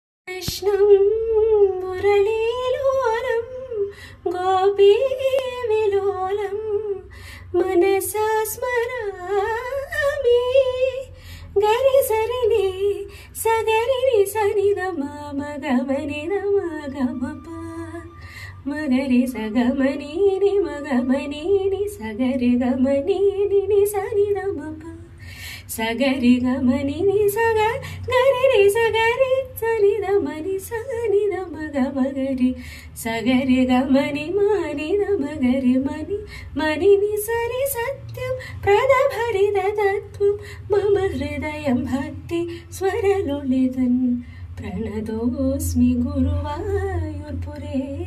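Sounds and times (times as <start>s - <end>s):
woman singing unaccompanied: 0.3s - 48.0s.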